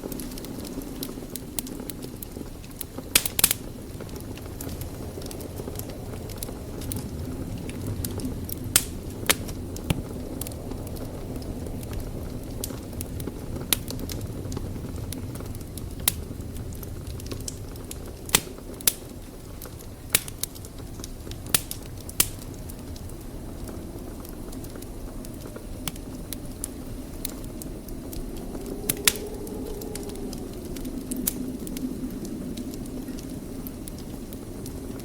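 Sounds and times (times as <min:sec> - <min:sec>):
flames rumbling: 0:00.0 - 0:35.0
logs crackling and popping: 0:00.0 - 0:35.0.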